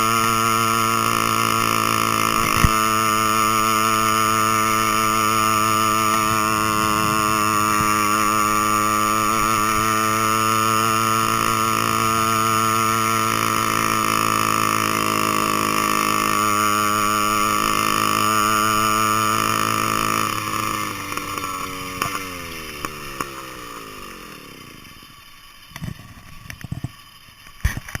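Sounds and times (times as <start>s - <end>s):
two-stroke engine running: 0.0s - 28.0s.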